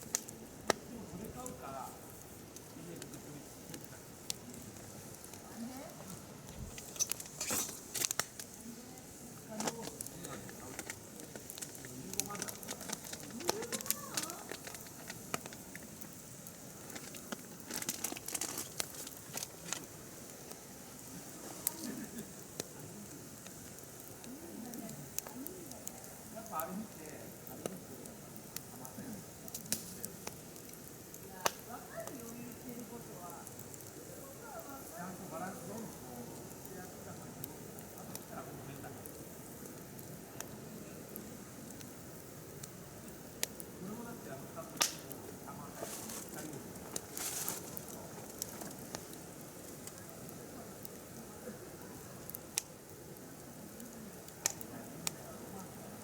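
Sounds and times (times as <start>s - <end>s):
campfire crackling and popping: 0.0s - 56.0s
fire hissing: 0.0s - 56.0s.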